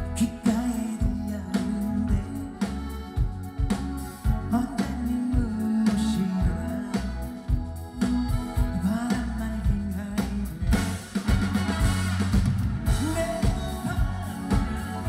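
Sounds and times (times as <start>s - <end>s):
person singing: 0.0s - 11.5s, 12.8s - 15.0s
live pop band music: 0.0s - 15.0s.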